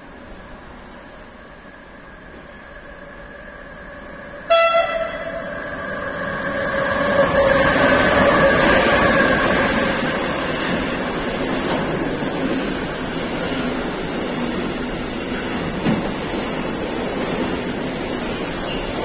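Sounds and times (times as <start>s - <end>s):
electric locomotives passing: 0.0s - 19.0s.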